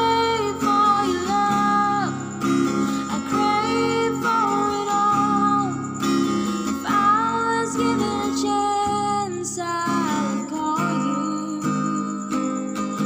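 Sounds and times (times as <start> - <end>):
acoustic guitar: 0.0 - 13.0
slow song: 0.0 - 13.0.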